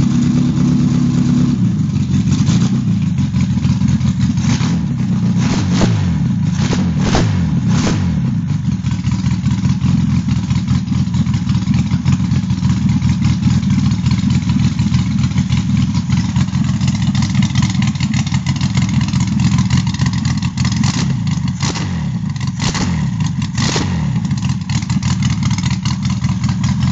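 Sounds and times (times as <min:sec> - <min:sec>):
car engine idling and revving: 0:00.0 - 0:26.9.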